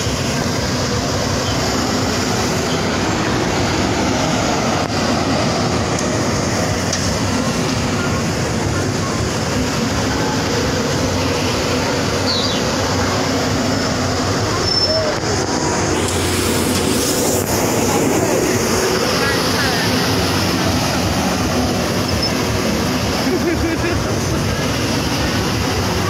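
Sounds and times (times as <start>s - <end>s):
spray jet hissing: 0.0s - 26.0s
truck engine running: 0.0s - 26.0s.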